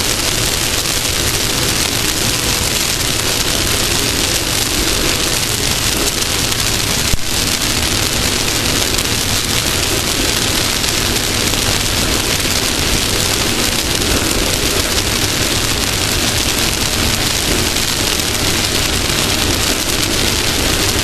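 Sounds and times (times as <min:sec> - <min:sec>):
race car engine at speed: 0:00.0 - 0:21.0.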